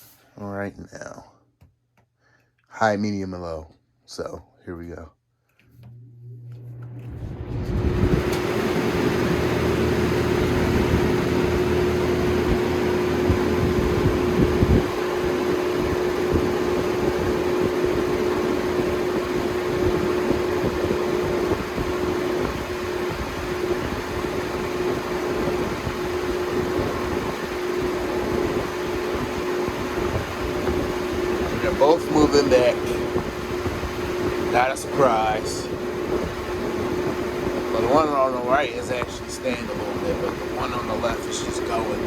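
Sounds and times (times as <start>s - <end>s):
fan hum: 5.4s - 42.0s
lower hum: 5.7s - 42.0s
box fans rushing air: 6.7s - 42.0s.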